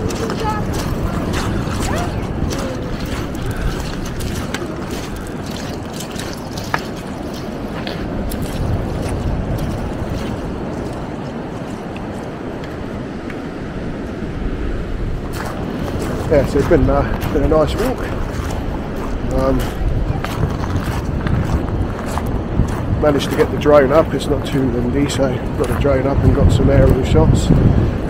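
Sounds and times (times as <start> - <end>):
sea surf on a beach: 0.0 - 28.0
wind buffeting microphone: 0.0 - 28.0.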